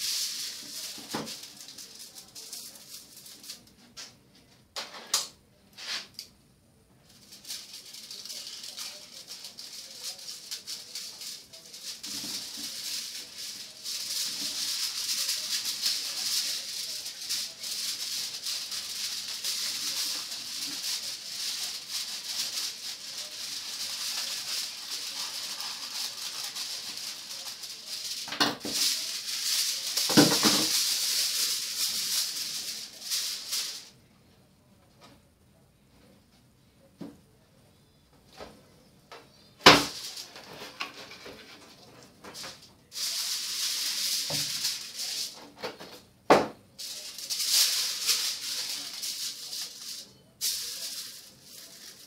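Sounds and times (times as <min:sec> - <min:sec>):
aluminium foil crinkling: 0:00.0 - 0:03.8, 0:07.0 - 0:33.9, 0:39.6 - 0:45.9, 0:46.8 - 0:52.0.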